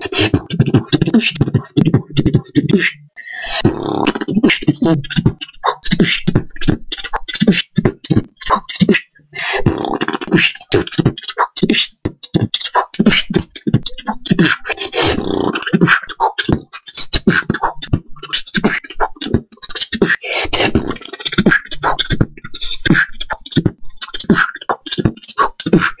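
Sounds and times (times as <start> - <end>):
beatboxing drum strokes: 0.0 - 26.0
throat bass: 0.0 - 26.0.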